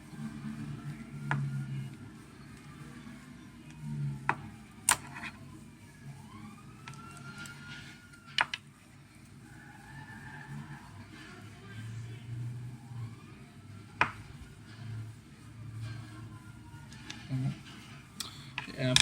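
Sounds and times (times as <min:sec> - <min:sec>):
faint rising and falling tone: 0:00.0 - 0:18.2.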